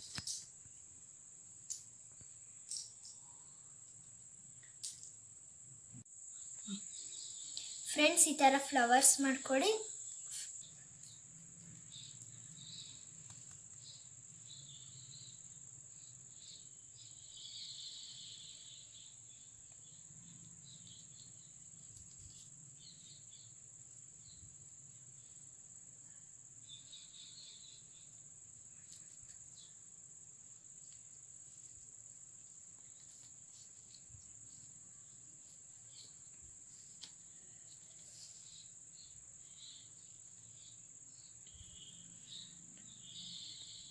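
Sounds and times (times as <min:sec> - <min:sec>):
cricket chirring: 0:00.0 - 0:43.9.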